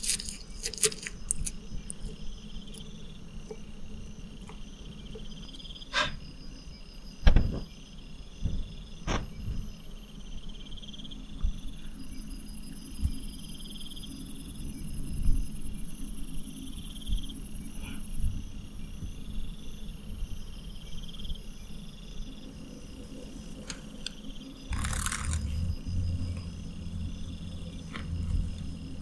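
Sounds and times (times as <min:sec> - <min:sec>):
insects chirping in pulsed trills: 0:00.0 - 0:29.0.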